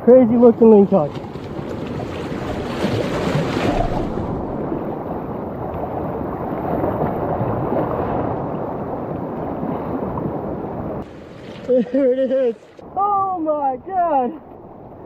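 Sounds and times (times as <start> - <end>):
sea water on shore: 0.0 - 15.0
wind: 0.0 - 15.0.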